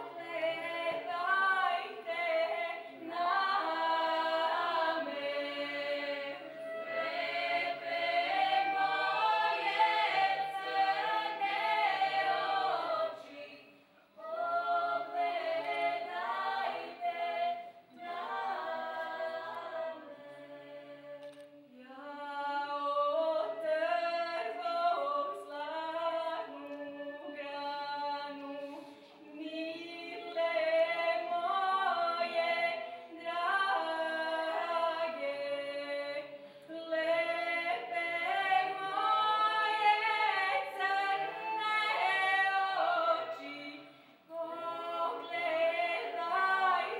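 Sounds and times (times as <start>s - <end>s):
mixed choir singing: 0.0s - 21.2s, 29.6s - 46.9s.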